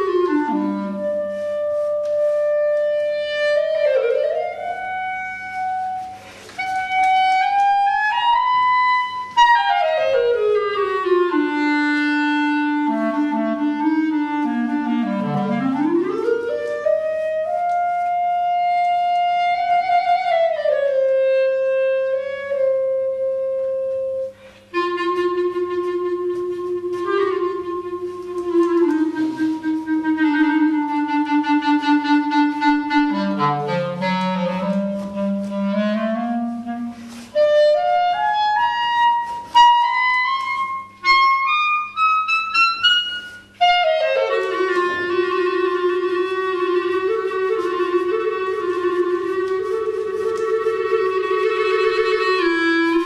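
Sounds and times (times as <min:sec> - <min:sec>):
solo clarinet improvising: 0:00.0 - 0:53.0.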